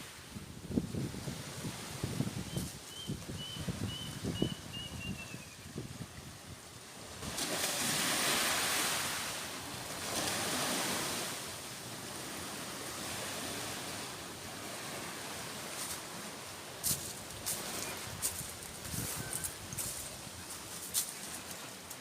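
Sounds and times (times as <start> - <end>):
strong wind: 0.0 - 14.0, 16.8 - 20.6
surf: 0.0 - 22.0.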